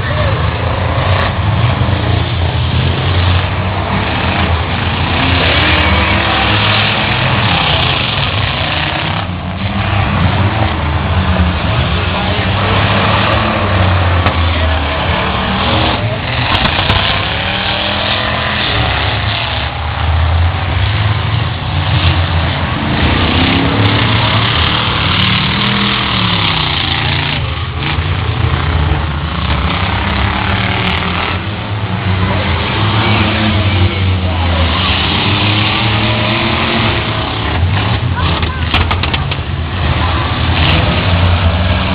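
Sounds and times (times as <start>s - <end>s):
constant rush of noise: 0.0s - 41.9s
truck engines revving: 0.0s - 41.9s.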